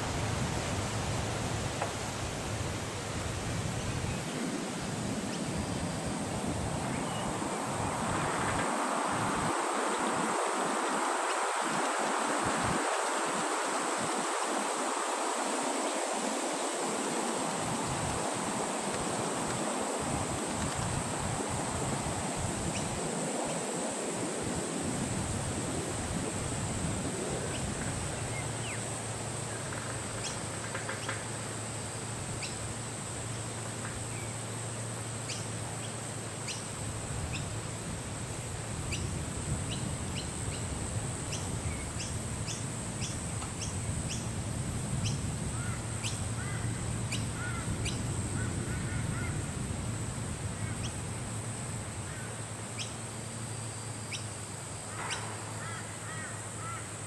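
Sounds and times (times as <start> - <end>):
wind blowing with low rumble: 0.0 - 56.8
steady high hiss: 0.0 - 57.0.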